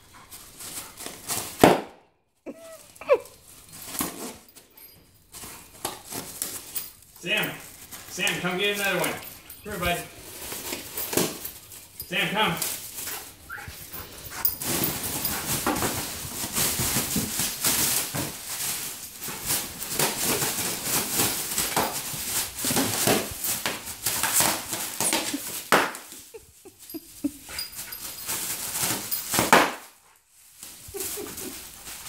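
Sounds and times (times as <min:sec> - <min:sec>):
plastic packing crinkling: 0:05.3 - 0:32.0.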